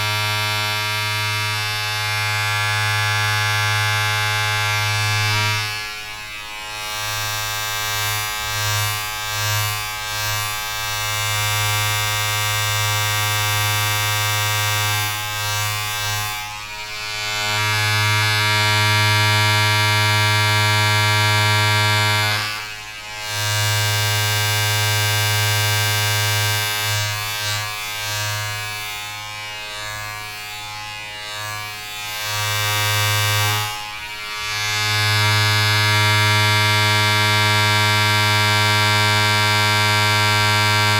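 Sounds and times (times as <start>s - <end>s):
small electric motor buzzing: 0.0s - 40.9s.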